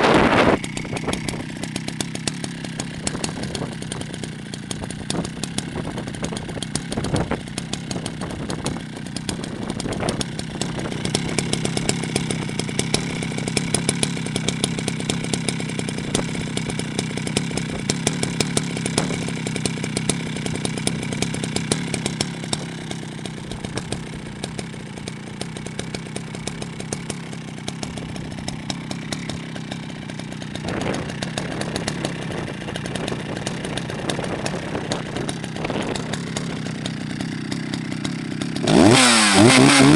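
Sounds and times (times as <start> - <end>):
two-stroke chainsaw engine running: 0.0 - 39.9.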